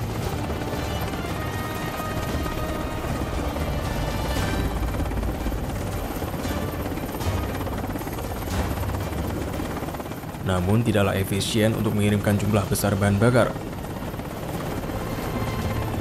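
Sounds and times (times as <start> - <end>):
background music: 0.0 - 16.0
helicopter hovering: 0.0 - 16.0.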